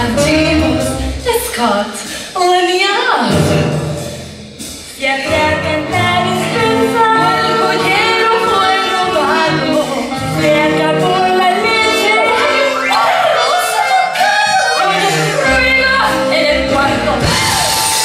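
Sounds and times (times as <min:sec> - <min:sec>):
women singing: 0:00.0 - 0:03.2, 0:05.0 - 0:17.9
band accompaniment: 0:00.0 - 0:18.0.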